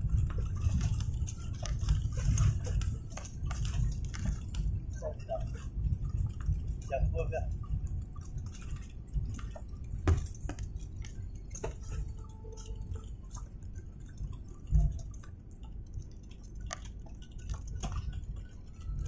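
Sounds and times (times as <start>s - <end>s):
airliner rumble in cabin: 0.0s - 19.0s
light clicks and rattles: 0.0s - 19.0s.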